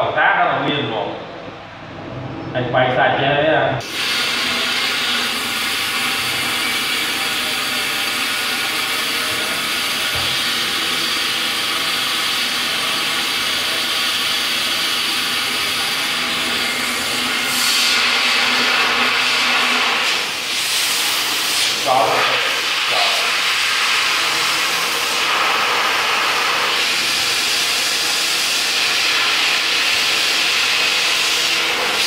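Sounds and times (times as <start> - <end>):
compressed air hissing: 3.8 - 32.0.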